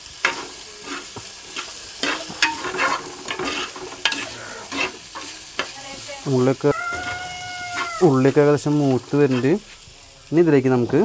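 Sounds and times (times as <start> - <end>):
shallots sizzling in oil: 0.0 - 11.0
spatula scraping pot: 0.2 - 9.9.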